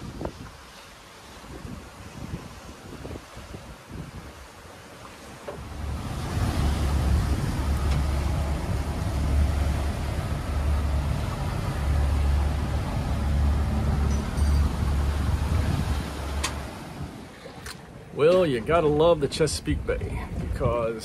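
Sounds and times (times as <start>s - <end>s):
wind buffeting microphone: 0.0s - 4.7s, 5.4s - 21.0s
water rushing along hull: 0.0s - 21.0s.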